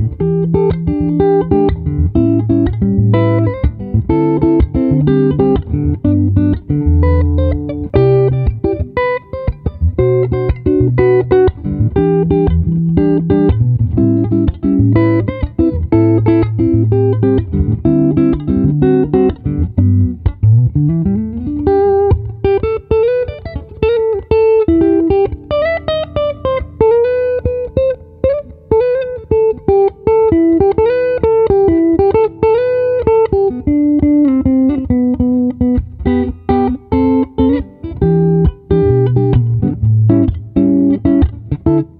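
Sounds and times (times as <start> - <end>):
guitar chords and melody: 0.0 - 41.9.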